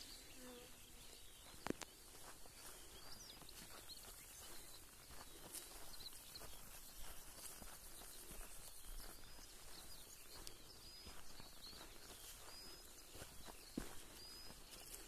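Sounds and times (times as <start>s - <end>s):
distant birds chirping: 0.0s - 15.0s.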